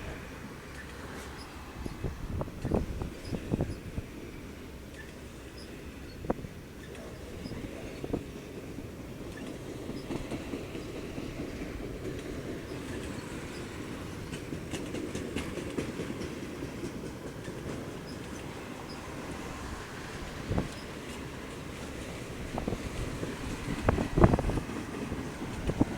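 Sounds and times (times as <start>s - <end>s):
train wheels rumbling on rails: 0.0s - 25.9s
wheels clicking and clacking: 0.0s - 25.9s.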